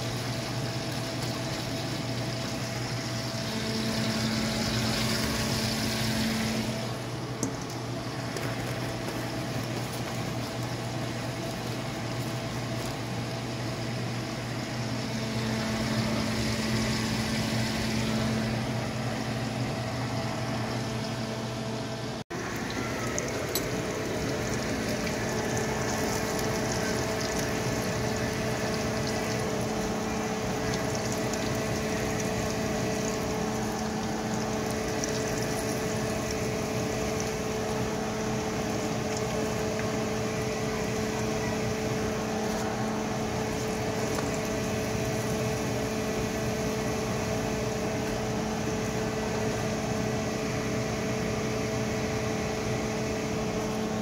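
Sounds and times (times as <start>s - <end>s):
fish frying in oil: 0.0s - 21.6s, 22.3s - 54.0s
low steady hum: 0.0s - 54.0s.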